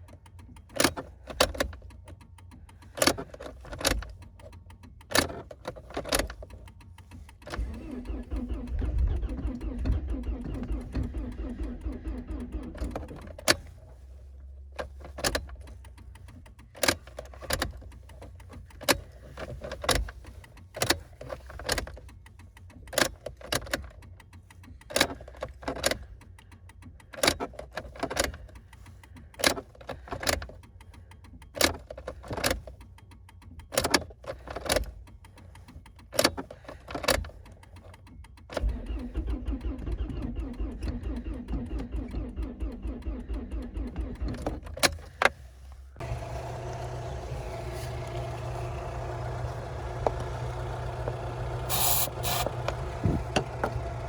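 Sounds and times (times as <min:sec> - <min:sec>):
engine misfiring with pops: 0:00.0 - 0:54.0.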